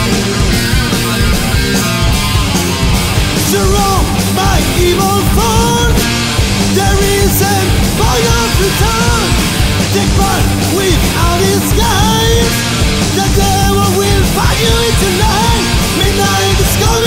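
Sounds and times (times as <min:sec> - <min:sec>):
bending melody line: 0:00.0 - 0:17.0
heavy metal band playing: 0:00.0 - 0:17.0.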